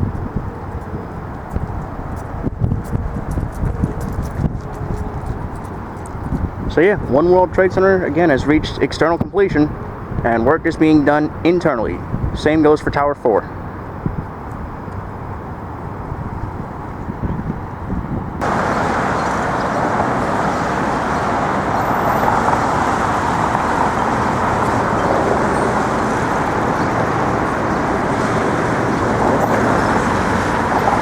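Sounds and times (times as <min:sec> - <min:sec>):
city traffic noise: 0:00.0 - 0:31.0.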